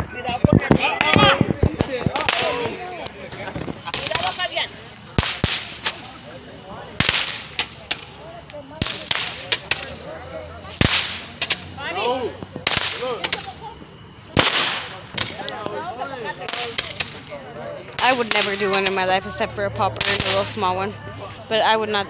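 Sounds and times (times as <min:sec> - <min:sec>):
fireworks bangs and pops: 0:00.3 - 0:10.1, 0:10.7 - 0:11.8, 0:12.4 - 0:15.8, 0:16.4 - 0:19.2, 0:19.9 - 0:20.6.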